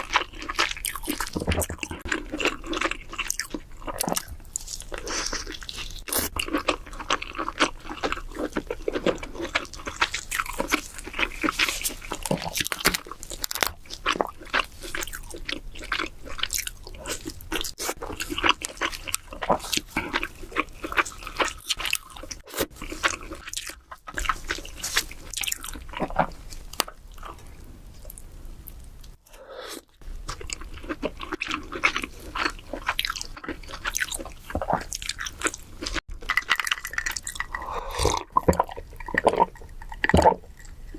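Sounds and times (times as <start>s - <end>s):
crab shell crunching and chewing: 0.0s - 40.9s.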